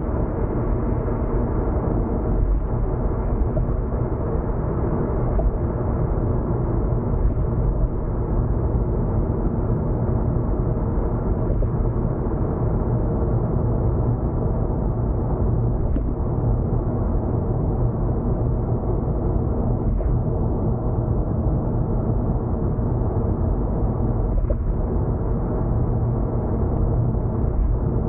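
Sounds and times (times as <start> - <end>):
car engine drone: 0.0 - 28.0.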